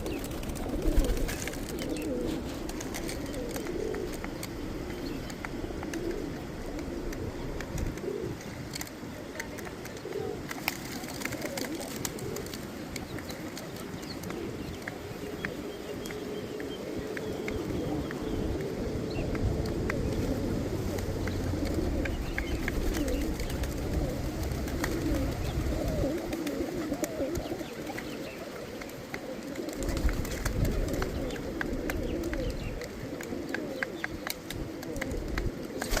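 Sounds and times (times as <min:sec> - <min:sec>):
pigeons cooing: 0:00.0 - 0:36.0.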